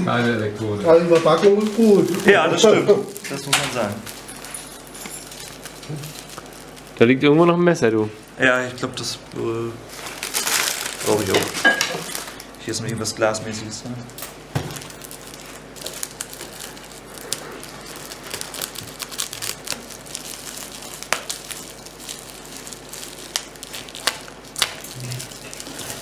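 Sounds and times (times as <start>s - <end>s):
plastic bag crinkling: 1.4s - 7.4s, 8.0s - 12.7s, 14.0s - 26.0s.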